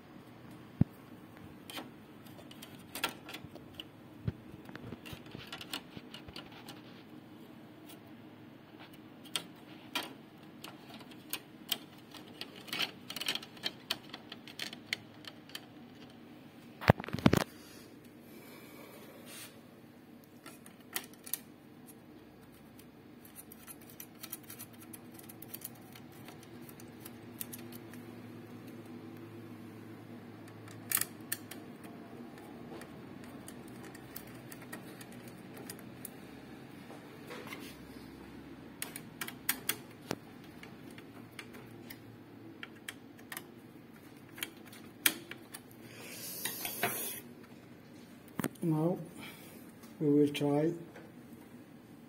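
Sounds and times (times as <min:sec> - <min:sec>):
faint hum: 0:00.0 - 0:52.0.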